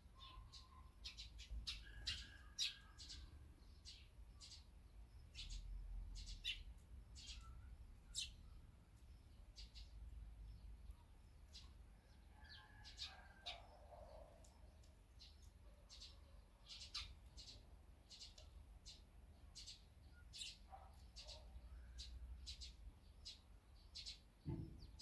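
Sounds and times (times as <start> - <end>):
sparrows chirping: 0.0 - 25.0.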